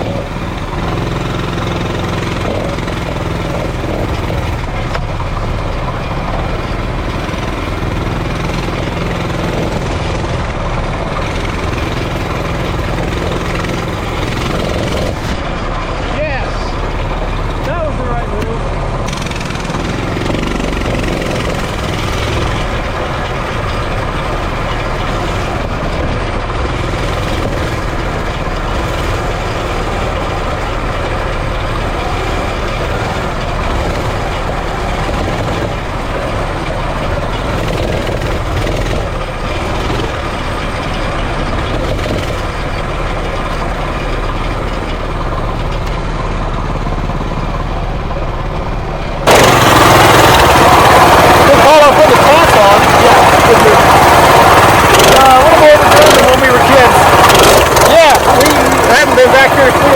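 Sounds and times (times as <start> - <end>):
minibike engine running: 0.0 - 59.9.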